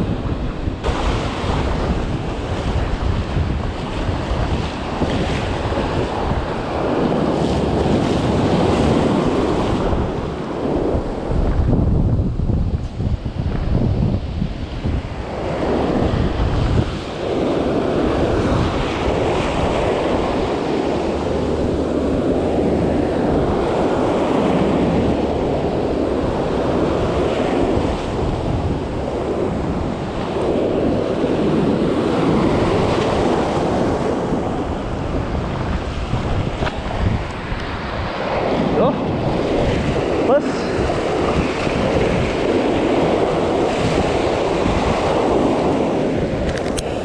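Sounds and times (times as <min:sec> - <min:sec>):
surf breaking on shore: 0:00.0 - 0:47.0
wind buffeting microphone: 0:00.0 - 0:47.0.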